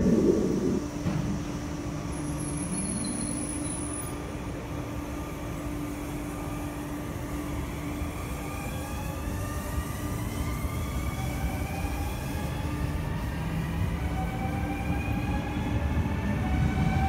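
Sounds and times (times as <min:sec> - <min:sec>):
train steady hum: 0:00.0 - 0:17.0.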